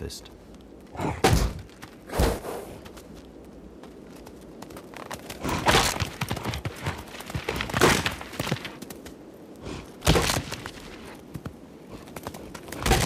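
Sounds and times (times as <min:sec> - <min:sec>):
hooves scuffling on snowy ground: 0:00.0 - 0:12.8.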